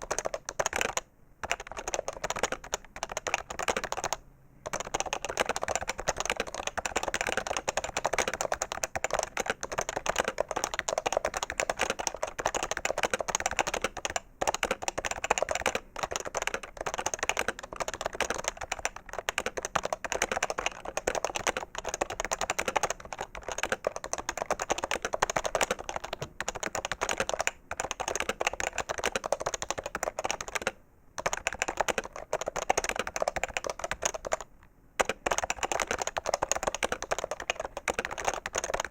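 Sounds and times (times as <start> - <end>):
keyboard typing clacks: 0.0 - 38.9.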